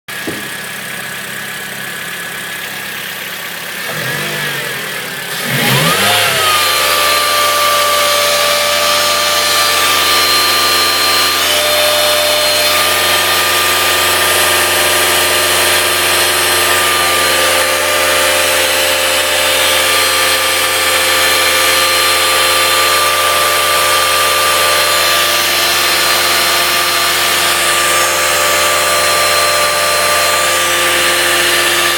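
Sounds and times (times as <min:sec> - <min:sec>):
car engine running: 0:00.1 - 0:31.9
steady whine: 0:00.2 - 0:31.9.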